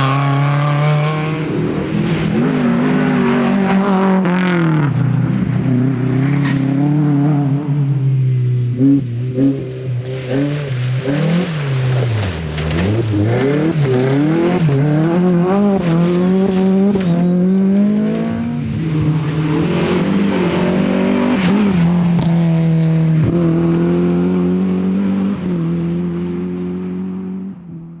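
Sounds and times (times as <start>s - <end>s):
rally car engine at full throttle: 0.0s - 28.0s.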